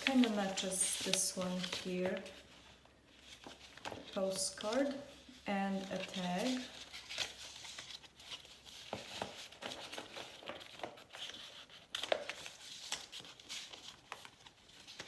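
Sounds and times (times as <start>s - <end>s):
paper pages rustling and crinkling: 0.0s - 15.0s.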